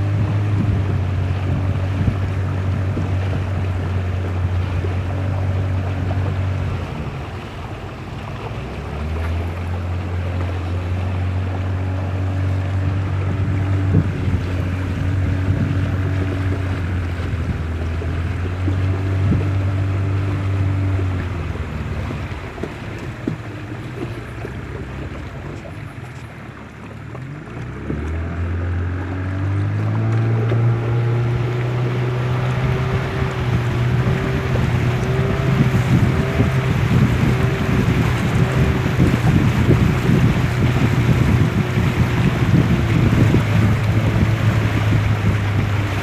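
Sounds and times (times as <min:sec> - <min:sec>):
outboard motor running: 0:00.0 - 0:46.0
rushing water: 0:00.0 - 0:46.0.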